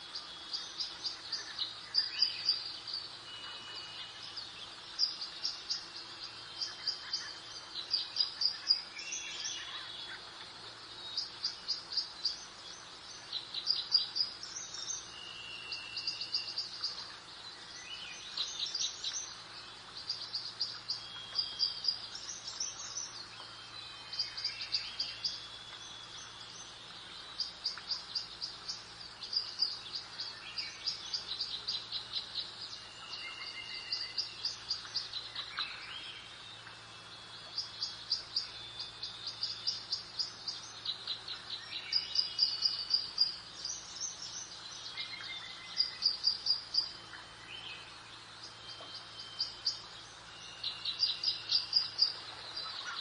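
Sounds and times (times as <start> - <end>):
soft steady background hiss: 0.0 - 53.0
songbirds chirping and whistling: 0.0 - 53.0.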